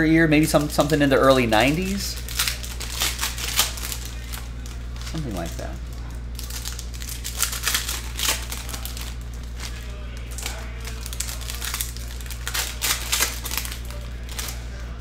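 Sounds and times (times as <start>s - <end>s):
foil wrappers crinkling: 0.0s - 15.0s.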